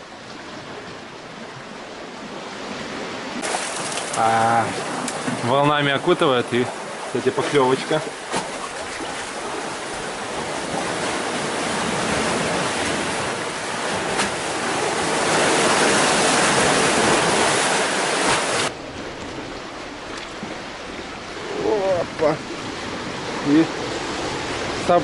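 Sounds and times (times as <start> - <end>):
surf washing against pier wall: 2.6 - 25.0.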